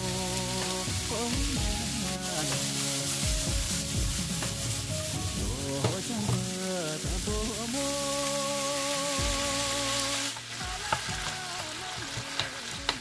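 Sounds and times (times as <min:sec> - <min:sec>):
background music: 0:00.0 - 0:13.0
vegetables sizzling in a pan: 0:00.0 - 0:13.0.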